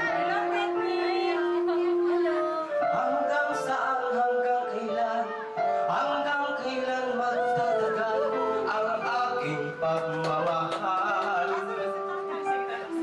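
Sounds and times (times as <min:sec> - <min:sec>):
person singing over instruments: 0:00.0 - 0:11.9.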